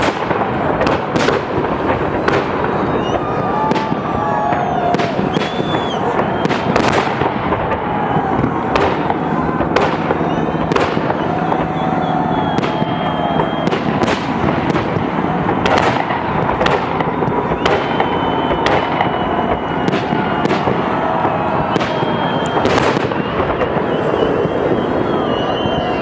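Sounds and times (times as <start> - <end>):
fireworks sharp bangs: 0.0 - 26.0
rumble of fireworks bursts: 0.0 - 26.0.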